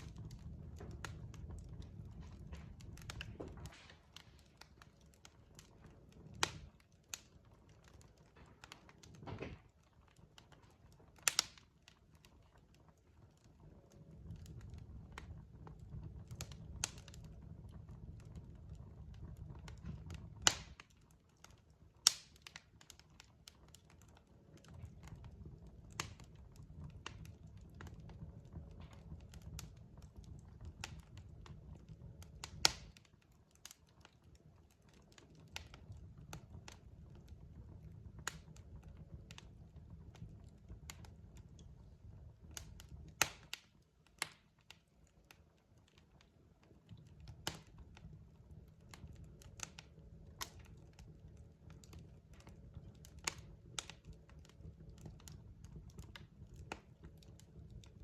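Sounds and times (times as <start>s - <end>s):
sharp pops of fire: 0.0s - 13.3s, 14.0s - 45.5s, 46.2s - 58.0s
burning logs crackling: 0.0s - 58.0s
low steady fire rumble: 0.0s - 58.0s.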